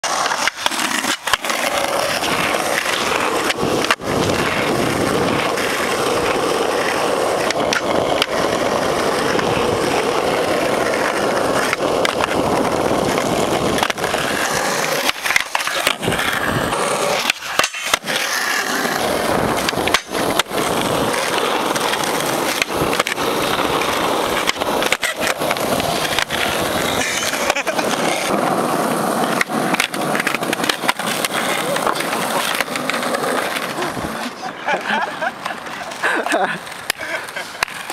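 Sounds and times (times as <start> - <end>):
skateboard wheels rolling on asphalt: 0.0 - 37.9.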